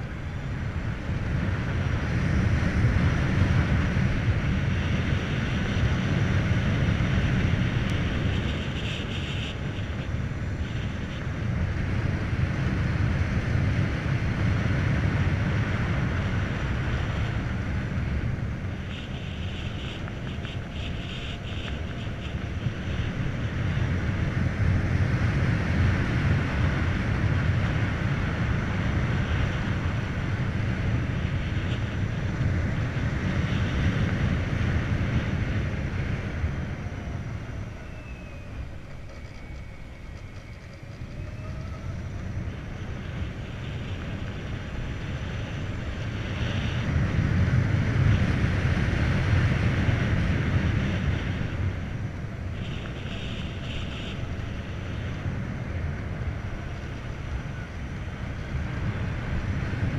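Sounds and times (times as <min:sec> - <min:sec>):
tyre and road noise: 0:00.0 - 0:59.9
wind rushing over microphone: 0:00.0 - 0:59.9.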